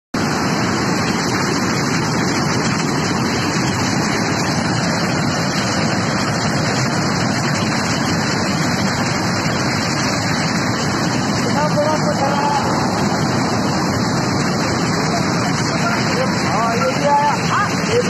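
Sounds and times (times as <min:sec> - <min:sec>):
rushing floodwater: 0:00.2 - 0:18.0.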